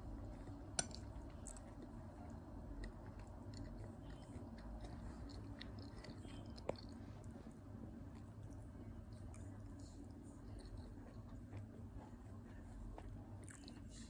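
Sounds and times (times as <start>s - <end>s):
chewing close to microphone: 0.2s - 14.0s.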